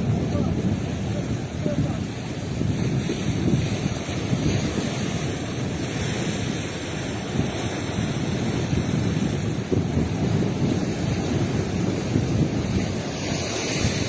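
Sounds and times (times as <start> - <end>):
sea wash: 0.0 - 14.0
wind buffeting microphone: 0.0 - 14.0.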